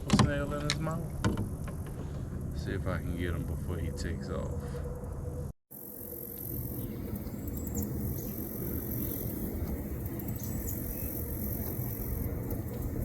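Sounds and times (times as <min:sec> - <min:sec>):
low rumbling noise: 0:01.0 - 0:13.0.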